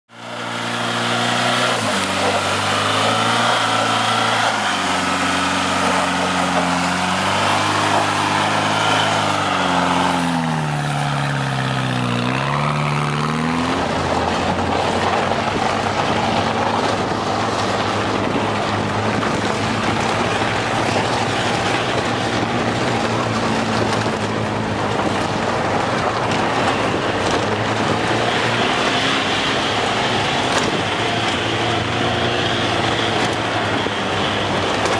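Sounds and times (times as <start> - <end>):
car engine revving: 0.1 - 34.9
rough rumbling noise: 0.1 - 34.9.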